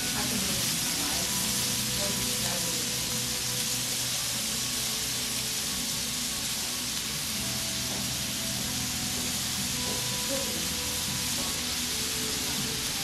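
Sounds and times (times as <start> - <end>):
pork sizzling on a griddle: 0.0 - 13.0.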